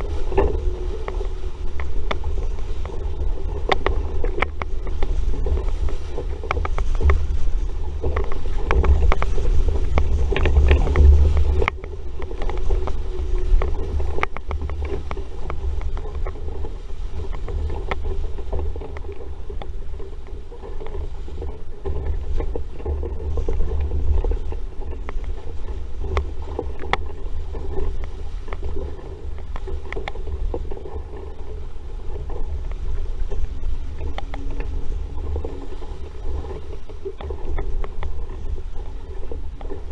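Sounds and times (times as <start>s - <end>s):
water rushing past hull: 0.0s - 39.9s
wind buffeting microphone: 0.0s - 39.9s.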